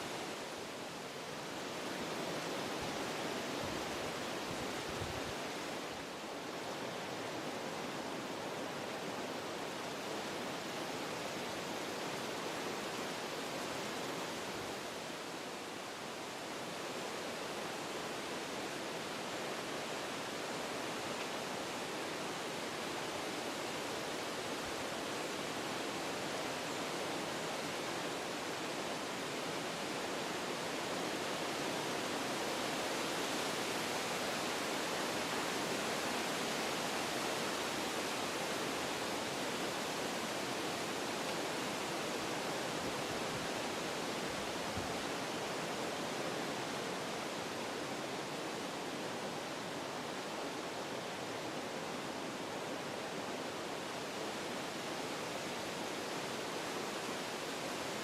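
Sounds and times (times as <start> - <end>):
wind through trees: 0.0 - 58.0.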